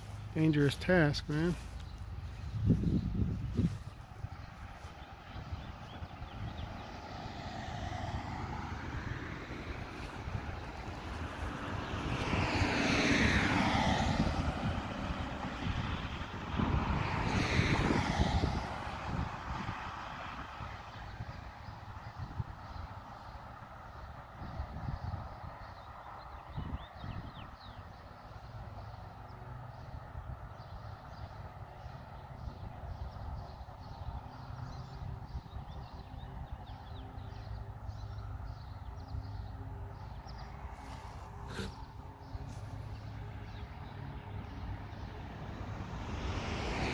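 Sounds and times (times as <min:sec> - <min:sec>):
small songbirds chirping: 0:00.0 - 0:12.9, 0:20.6 - 0:45.9
vehicles driving past: 0:00.0 - 0:46.9.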